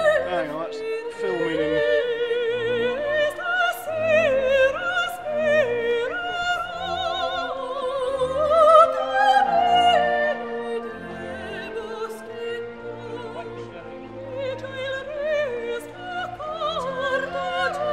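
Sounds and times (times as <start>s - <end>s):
operatic singing: 0.0s - 17.9s
orchestral accompaniment: 0.0s - 17.9s.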